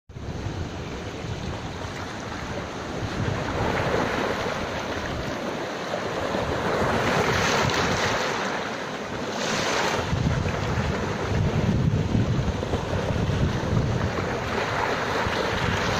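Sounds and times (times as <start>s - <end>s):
wind buffeting microphone: 0.1s - 8.5s, 9.1s - 15.9s
surf washing on sandy shore: 0.1s - 15.9s.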